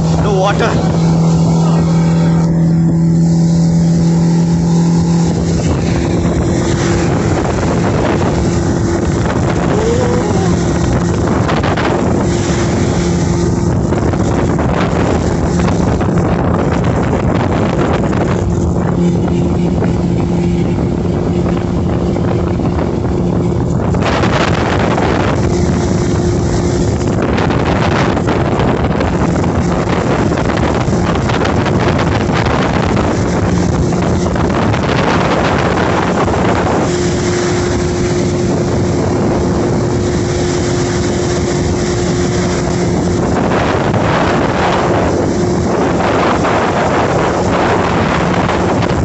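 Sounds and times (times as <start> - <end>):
motorboat engine running: 0.0 - 49.0
wind buffeting microphone: 0.0 - 49.0.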